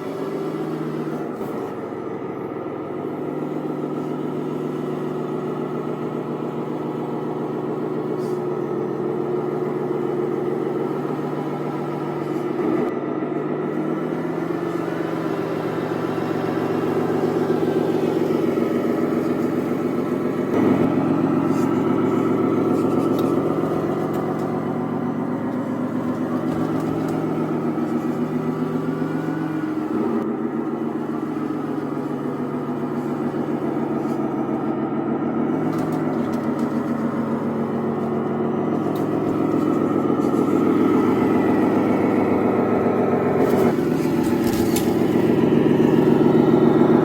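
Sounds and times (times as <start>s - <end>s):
simulated diesel truck engine: 0.0s - 47.0s.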